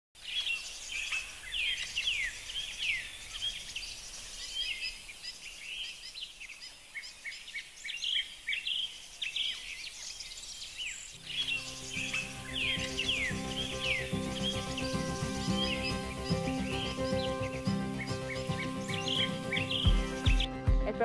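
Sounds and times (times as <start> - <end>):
small birds chirping: 0.2 - 20.5.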